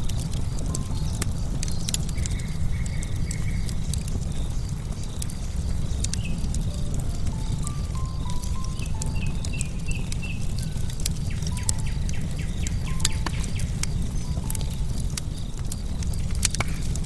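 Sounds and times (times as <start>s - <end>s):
low rumble of flames: 0.0s - 17.0s
sharp pops from burning logs: 0.0s - 17.0s
wood fire crackling: 0.0s - 17.0s.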